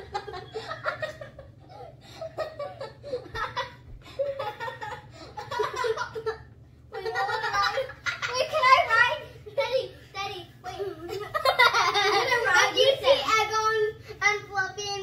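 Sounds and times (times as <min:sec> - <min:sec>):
children laughing: 0:00.0 - 0:10.0, 0:10.6 - 0:13.5.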